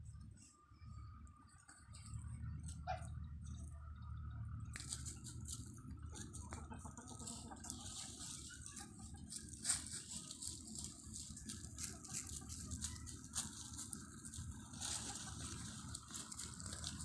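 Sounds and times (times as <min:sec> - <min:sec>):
chickens clucking: 0:01.1 - 0:17.0.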